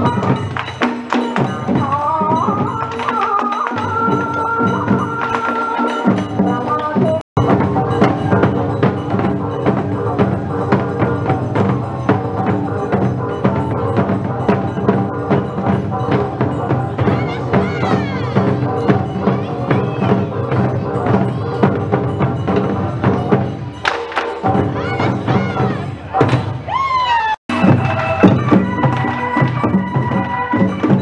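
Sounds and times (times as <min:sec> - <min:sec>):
dance music with drum and clacks: 0:00.0 - 0:26.7, 0:27.5 - 0:31.0.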